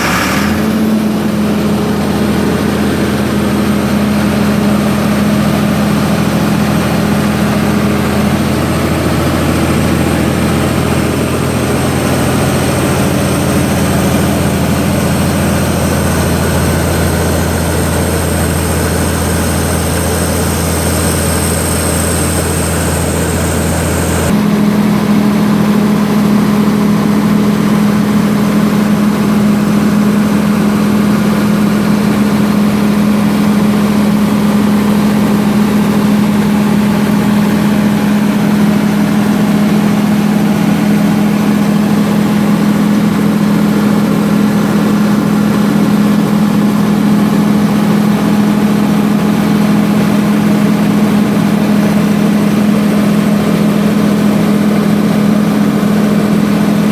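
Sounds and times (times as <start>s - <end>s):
diesel generator running: 0.0s - 56.9s.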